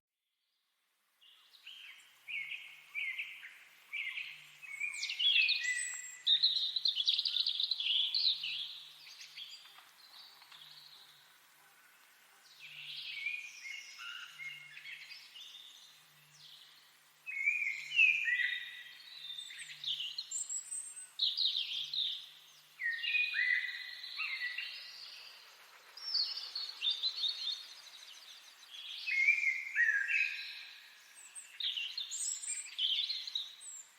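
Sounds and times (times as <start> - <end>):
songbirds singing: 1.2 - 33.9.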